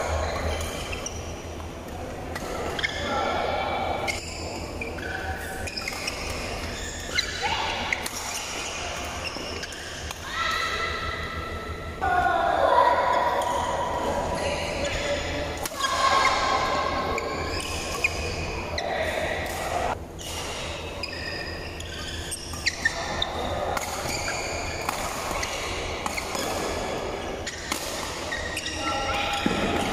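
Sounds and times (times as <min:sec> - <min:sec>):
shoes squeaking on court floor: 0:00.0 - 0:10.1, 0:14.6 - 0:29.9.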